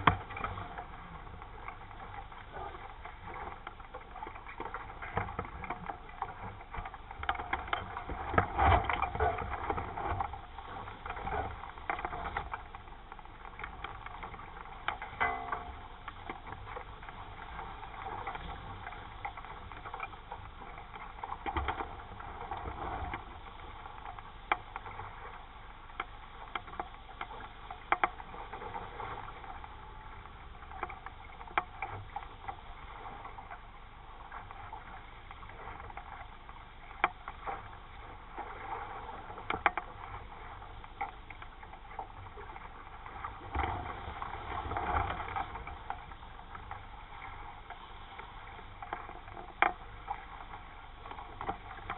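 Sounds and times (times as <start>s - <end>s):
wind and water rushing: 0.0s - 51.9s.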